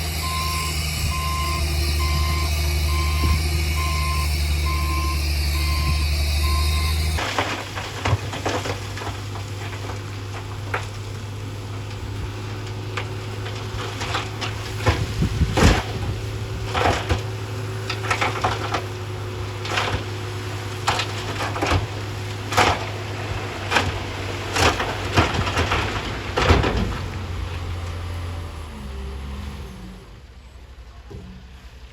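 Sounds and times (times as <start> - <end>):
diesel engine running: 0.0 - 31.9
rocks knocking and grinding: 1.1 - 28.1.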